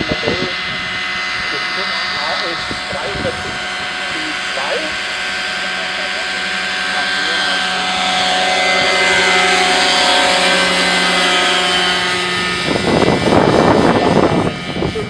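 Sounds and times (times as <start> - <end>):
burst of rough noise: 0.0 - 15.0
model helicopter engine and rotor whine: 0.0 - 15.0.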